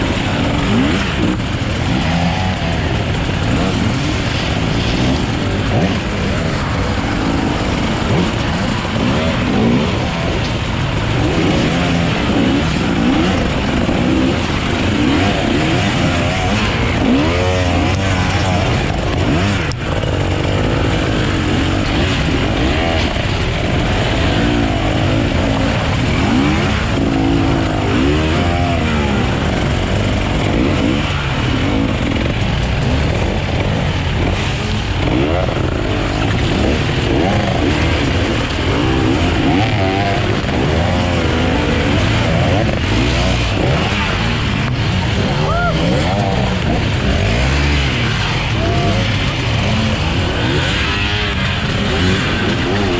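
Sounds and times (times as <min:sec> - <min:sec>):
motorcycle engines revving: 0:00.0 - 0:52.9.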